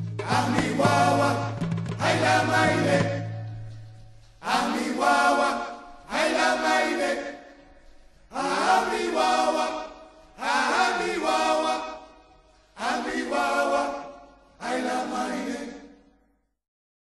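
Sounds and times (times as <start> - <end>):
voices chanting: 0.2 - 3.8, 4.4 - 16.0.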